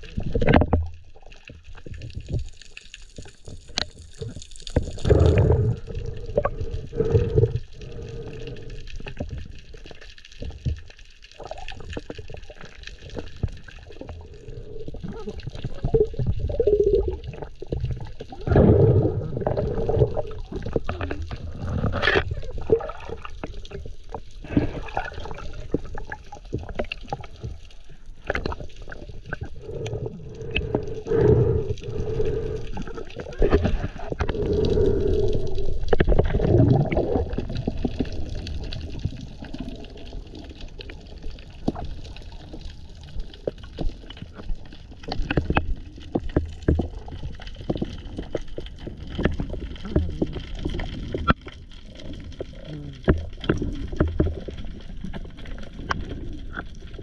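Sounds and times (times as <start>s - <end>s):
water swishing and gurgling underwater: 0.0s - 57.0s.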